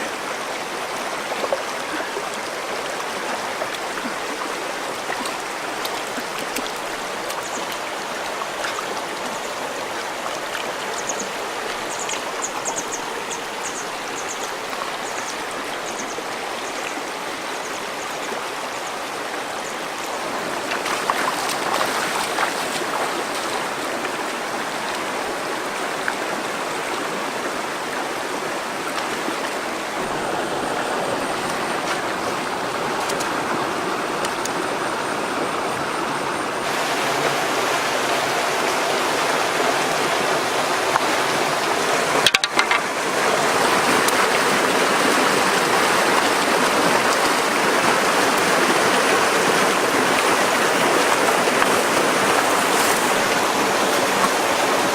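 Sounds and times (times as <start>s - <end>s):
river water over rocks: 0.0s - 54.9s.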